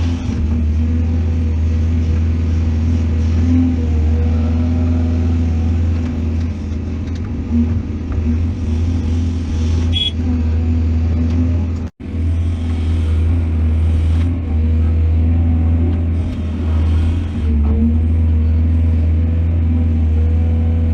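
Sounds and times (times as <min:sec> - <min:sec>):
diesel engine humming: 0:00.0 - 0:20.9.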